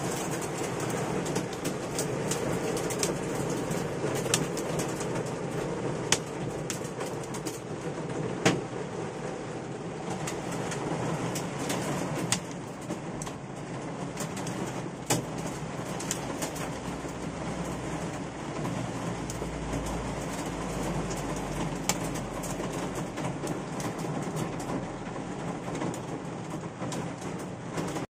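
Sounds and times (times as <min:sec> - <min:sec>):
hailstones striking car roof: 0:00.0 - 0:28.0
heavy rain on a car: 0:00.0 - 0:28.0.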